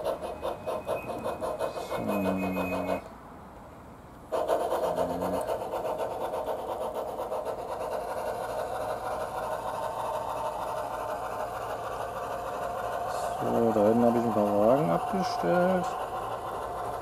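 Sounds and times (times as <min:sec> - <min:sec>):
rasping steam chuff: 0:00.0 - 0:03.1, 0:04.3 - 0:17.0.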